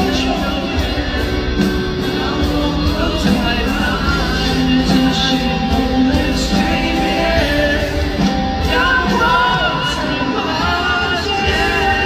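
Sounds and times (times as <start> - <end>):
person singing with band: 0.0 - 12.0.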